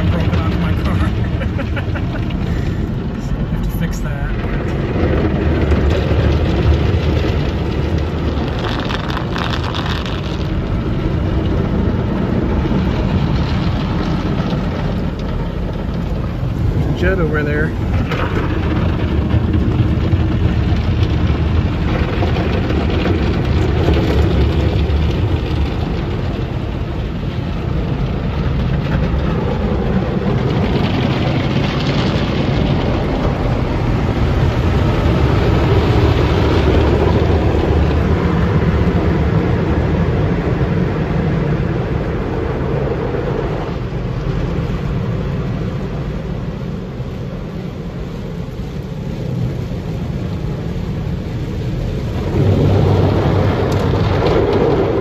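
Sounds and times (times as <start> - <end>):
car wash water spraying: 0.0 - 55.0.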